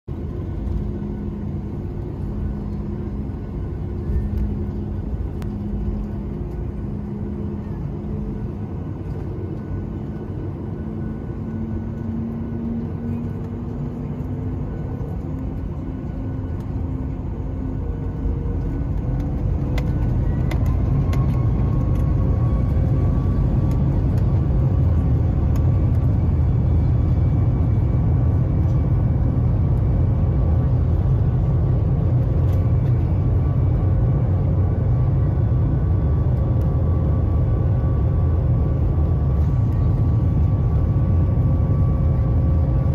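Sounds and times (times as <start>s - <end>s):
jet engines whining and rumbling: 0.0s - 42.9s.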